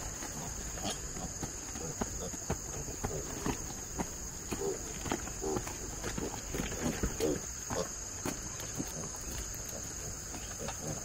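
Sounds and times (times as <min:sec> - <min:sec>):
crickets chirring: 0:00.0 - 0:11.0
piglets grunting: 0:00.3 - 0:03.5, 0:04.5 - 0:08.0, 0:08.7 - 0:11.0.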